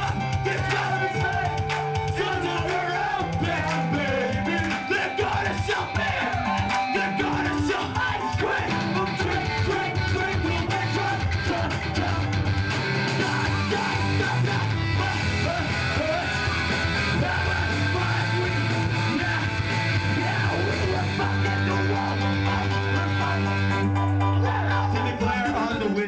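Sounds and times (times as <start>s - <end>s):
electric guitars strummed: 0.0s - 26.0s
punk rock band playing: 0.0s - 26.0s.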